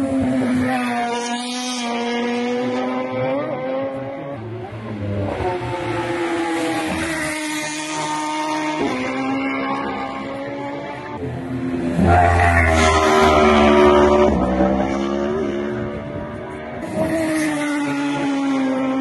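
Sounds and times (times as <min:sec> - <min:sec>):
race motorcycles passing: 0:00.0 - 0:19.0.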